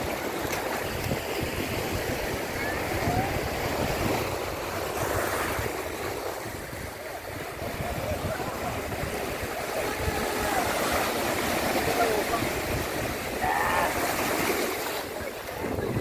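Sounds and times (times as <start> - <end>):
waves washing up a beach: 0.0 - 16.0.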